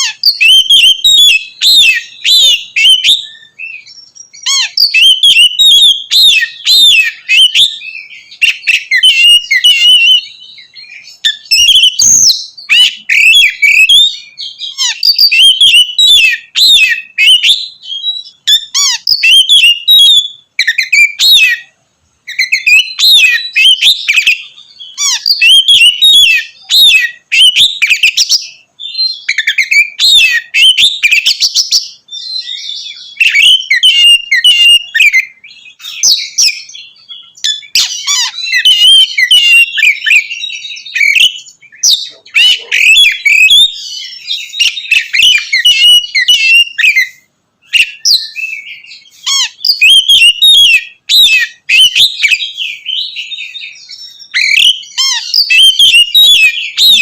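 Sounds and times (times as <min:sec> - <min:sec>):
bird singing whistled phrases: 0:00.0 - 0:57.0.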